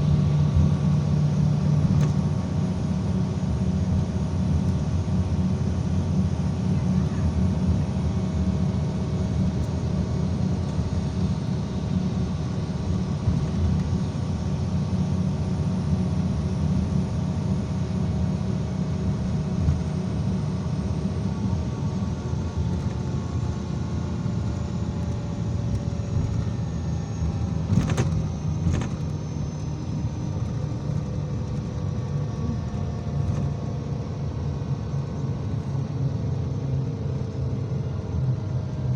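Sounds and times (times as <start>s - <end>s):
bus engine rumble and whine: 0.0s - 38.9s.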